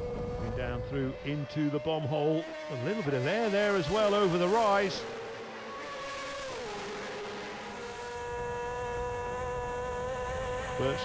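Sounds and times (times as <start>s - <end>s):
onboard engine at high revs: 0.0s - 11.0s
racing engine passing by: 0.0s - 11.0s.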